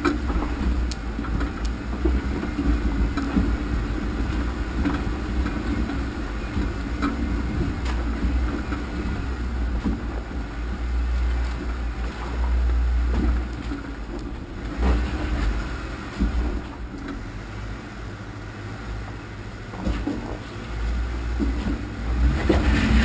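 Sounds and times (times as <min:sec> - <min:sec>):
knocks and rattles over rocks: 0:00.0 - 0:17.2, 0:19.7 - 0:20.6, 0:21.3 - 0:23.0
off-road vehicle engine running: 0:00.0 - 0:23.0.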